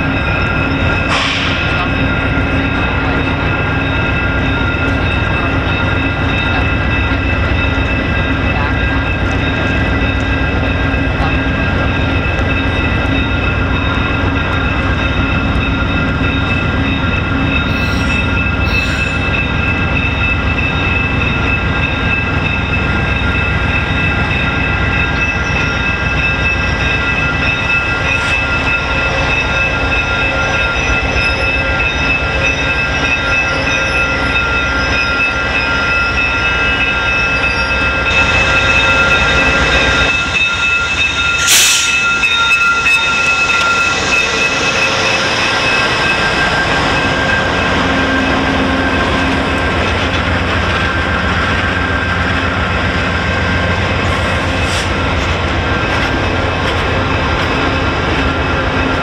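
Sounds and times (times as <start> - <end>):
diesel locomotive engine running: 0.0 - 59.0
train brake and wheel squeal: 0.0 - 59.0.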